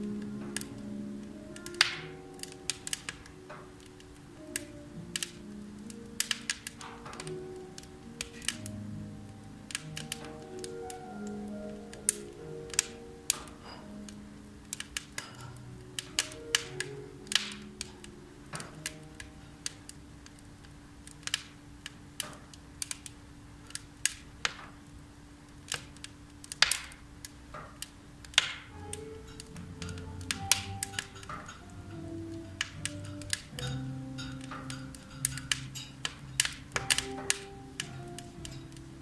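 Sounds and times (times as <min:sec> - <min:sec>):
soft background music: 0:00.0 - 0:39.0
wood fire crackling: 0:00.0 - 0:39.0.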